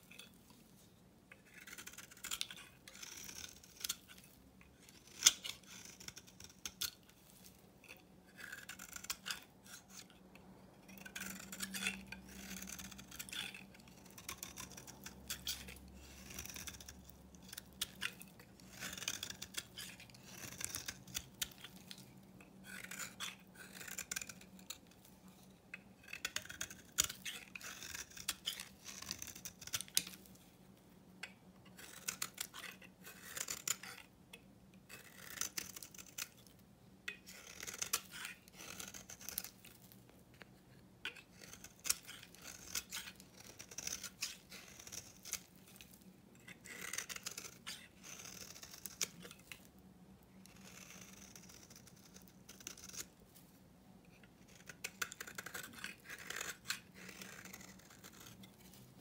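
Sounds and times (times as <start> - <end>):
knife blade scraping soap: 0.0 - 0.7, 1.3 - 30.4, 31.2 - 49.8, 50.4 - 59.0.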